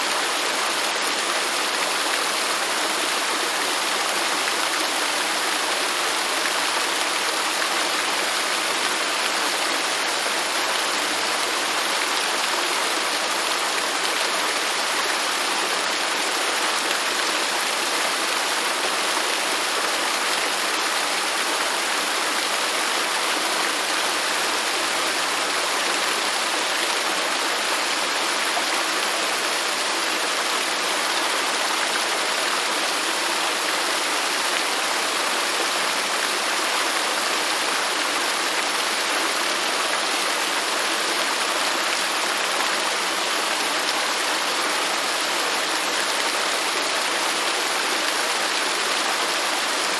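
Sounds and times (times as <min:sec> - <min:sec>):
fountain water splashing: 0:00.0 - 0:49.9.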